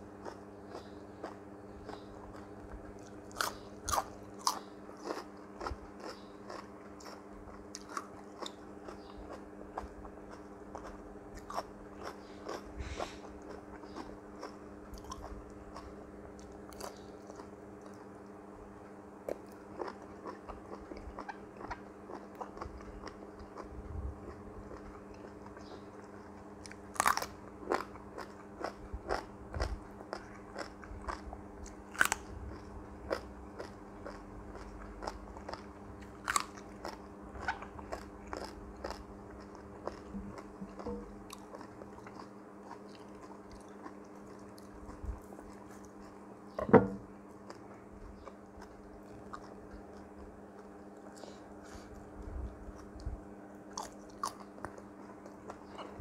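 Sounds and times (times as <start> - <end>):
person chewing: 0.0 - 46.6, 47.2 - 56.0
low hum: 0.0 - 56.0.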